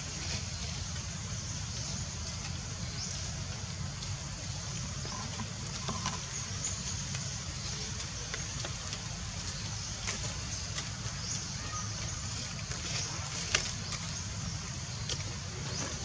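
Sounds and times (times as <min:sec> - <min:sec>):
high steady hiss: 0:00.0 - 0:16.0
low outdoor rumble: 0:00.0 - 0:16.0.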